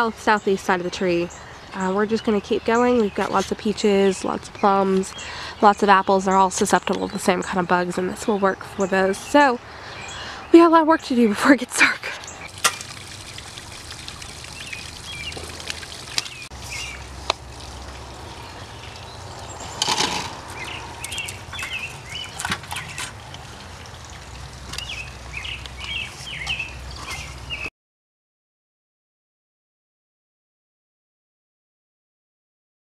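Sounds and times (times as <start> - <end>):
small birds chirping: 0.2 - 10.7, 11.8 - 27.7.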